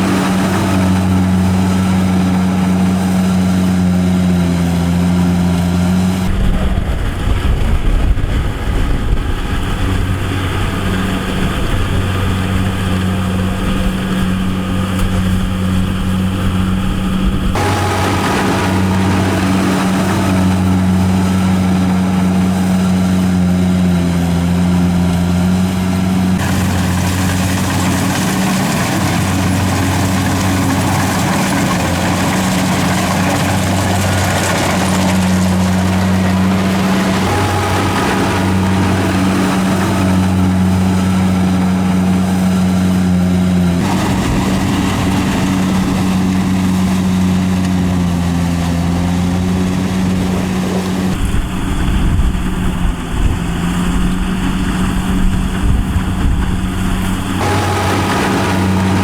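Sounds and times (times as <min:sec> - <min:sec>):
harvester engine humming: 0:00.0 - 0:59.0.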